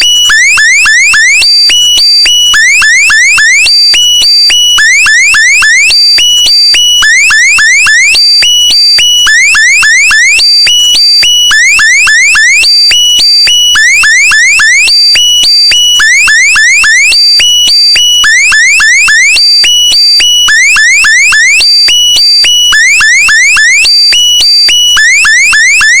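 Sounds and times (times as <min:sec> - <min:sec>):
electronic alarm chirps and beeps: 0:00.0 - 0:26.0.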